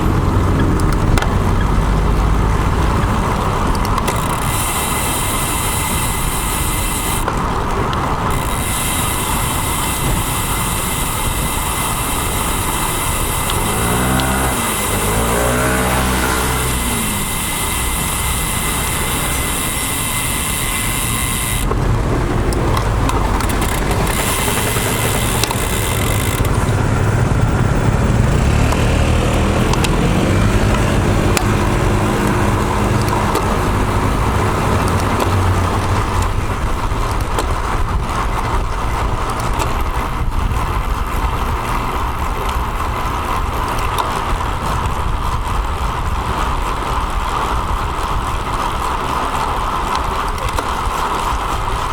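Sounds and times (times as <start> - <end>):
motor vehicles passing: 0.0 - 51.9
wind rush on microphone: 0.0 - 51.9.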